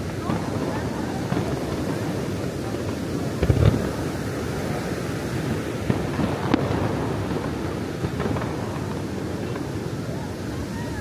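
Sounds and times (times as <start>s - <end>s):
fireworks bursting: 0.0s - 11.0s
steady background noise: 0.0s - 11.0s.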